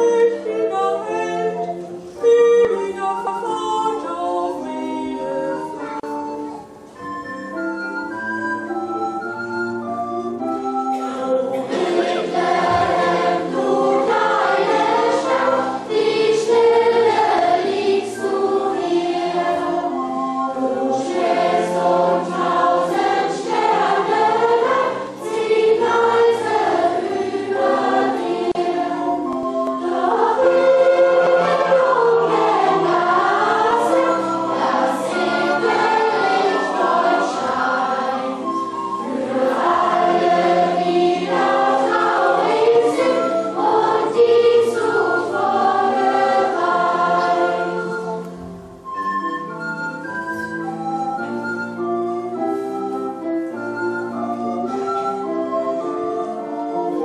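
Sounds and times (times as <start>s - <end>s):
choir singing: 0.0s - 6.7s, 10.4s - 48.9s, 49.5s - 57.0s.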